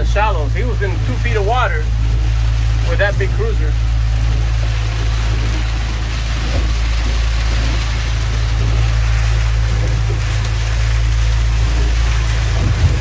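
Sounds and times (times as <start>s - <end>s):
boat engine idling: 0.0s - 13.0s
rain and wind hiss: 0.0s - 13.0s.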